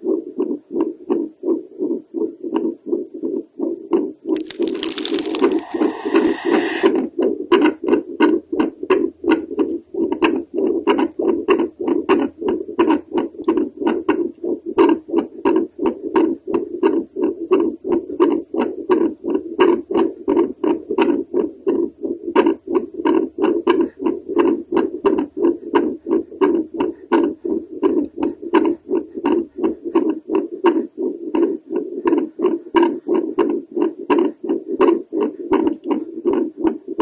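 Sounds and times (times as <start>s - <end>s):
heartbeat pulsing whooshes: 0.0s - 4.3s, 5.8s - 37.0s.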